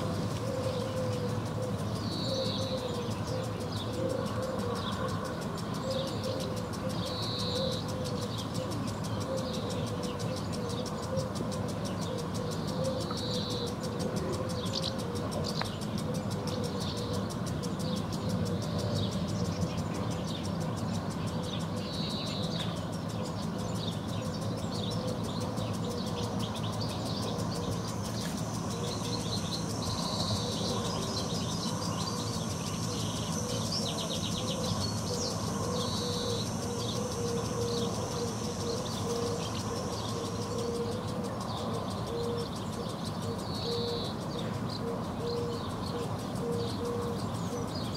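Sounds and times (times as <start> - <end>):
distant traffic hum: 0.0 - 47.9
garden sprinkler ticking: 0.0 - 47.9
swallows chirping: 0.0 - 47.9.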